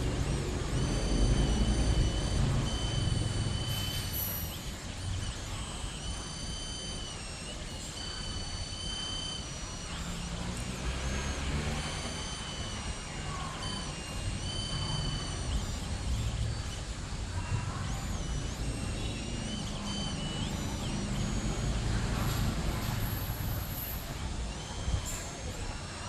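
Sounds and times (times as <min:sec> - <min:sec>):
stepper motors whining: 0:00.0 - 0:26.0.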